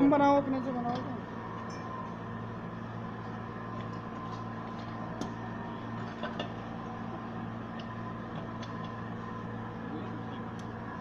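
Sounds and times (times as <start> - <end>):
welding transformer hum: 0.0 - 11.0.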